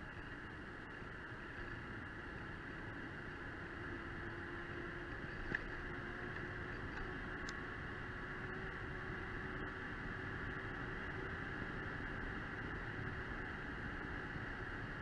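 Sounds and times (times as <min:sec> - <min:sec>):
bike tyres and wind rushing: 0:00.0 - 0:15.0
faint steady tone: 0:00.0 - 0:15.0.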